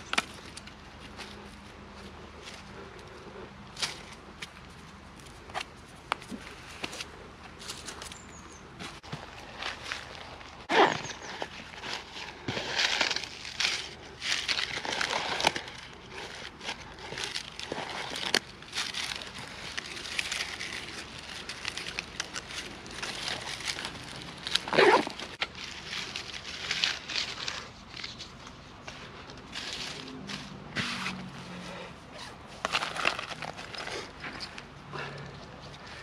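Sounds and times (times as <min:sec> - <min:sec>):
dry leaves and twigs crunching: 0:00.0 - 0:36.0.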